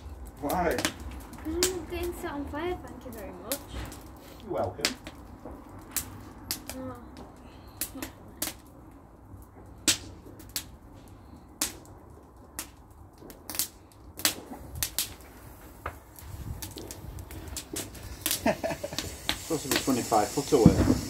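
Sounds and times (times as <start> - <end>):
bonfire crackling: 0.0 - 21.0
burning wood popping: 0.0 - 21.0.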